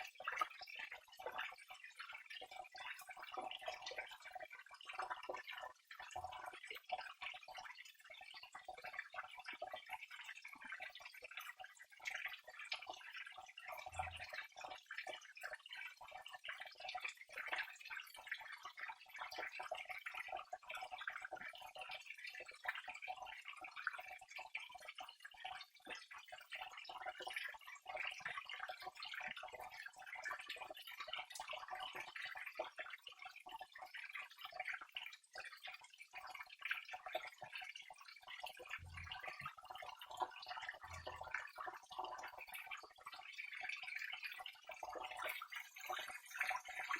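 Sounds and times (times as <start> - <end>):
small drips and splashes: 0.0 - 46.9
water trickling: 0.2 - 46.9.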